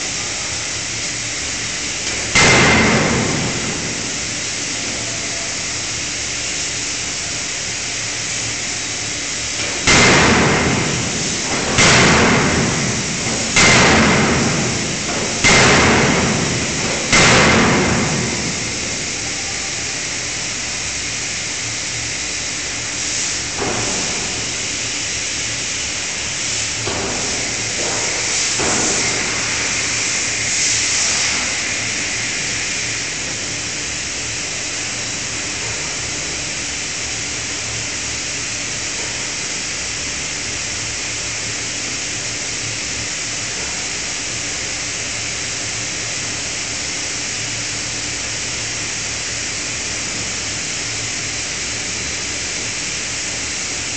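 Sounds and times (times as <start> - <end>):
loud hiss of steam: 0.0 - 53.9.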